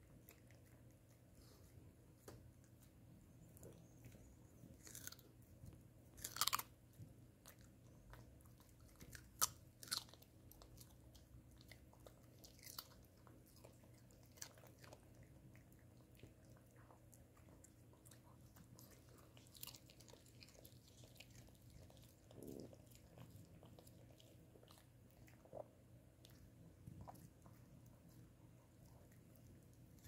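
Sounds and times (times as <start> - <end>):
dog chewing carrot: 0.0 - 1.7, 3.6 - 30.0.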